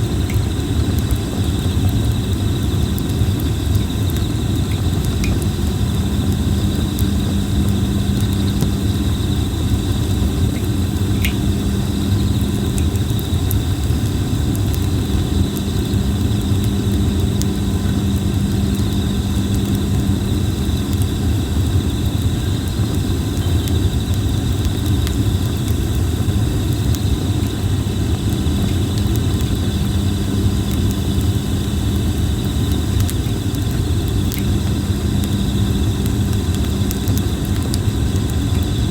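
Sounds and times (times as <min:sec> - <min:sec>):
campfire crackling and popping: 0:00.0 - 0:38.9
high insect chorus: 0:00.0 - 0:38.9
low fire rumble: 0:00.0 - 0:38.9.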